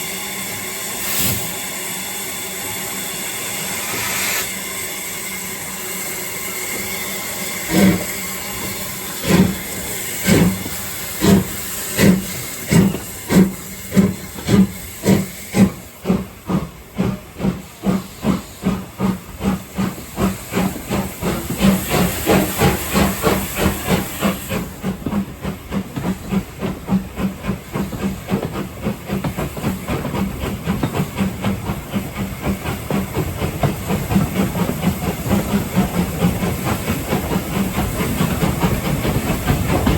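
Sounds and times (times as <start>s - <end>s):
steam hissing: 0.0s - 39.9s
steam locomotive exhaust beats: 0.0s - 39.9s.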